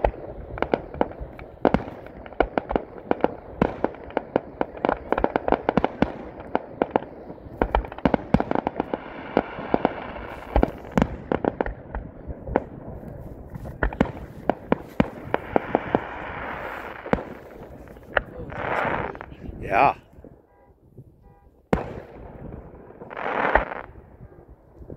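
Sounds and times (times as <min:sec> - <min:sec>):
fireworks bangs and cracks: 0:00.0 - 0:20.0, 0:21.7 - 0:24.0
fireworks crackling: 0:00.0 - 0:20.5, 0:21.7 - 0:24.9.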